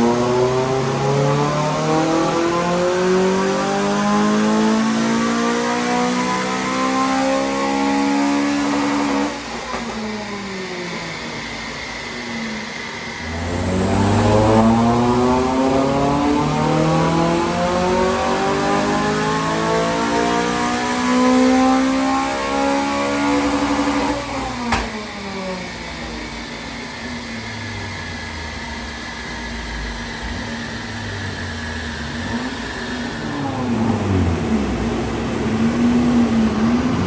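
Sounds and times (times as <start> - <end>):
car engine revving under load: 0.0 - 37.0.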